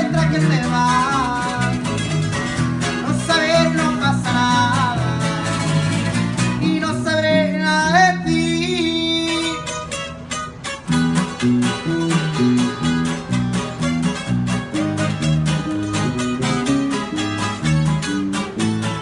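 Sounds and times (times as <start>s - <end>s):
acoustic guitars strummed and picked: 0.0s - 19.0s
electric bass line: 0.0s - 19.0s.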